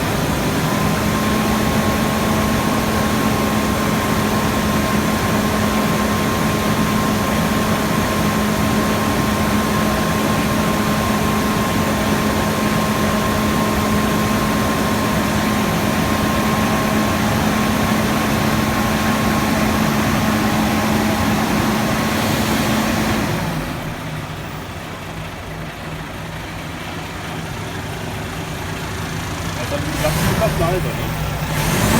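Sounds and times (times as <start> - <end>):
truck diesel engine idling: 0.0 - 31.9.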